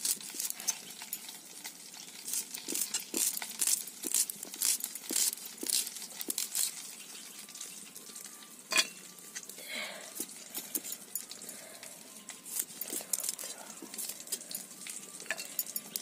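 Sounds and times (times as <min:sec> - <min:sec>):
garlic skins crackling and rustling: 0:00.0 - 0:16.0.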